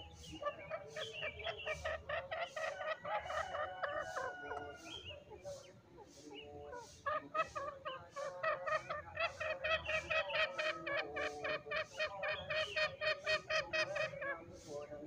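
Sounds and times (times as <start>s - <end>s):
junglefowl clucking calls: 0.0s - 15.0s.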